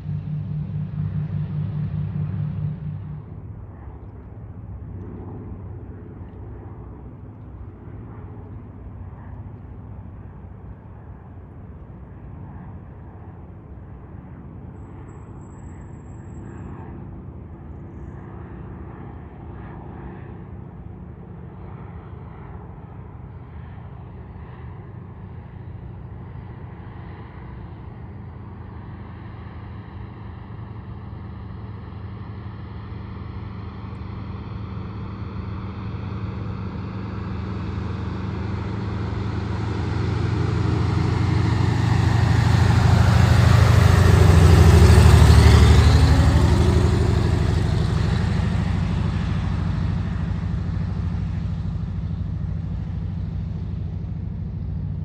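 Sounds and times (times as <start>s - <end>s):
propeller plane engine droning: 0.0s - 55.0s.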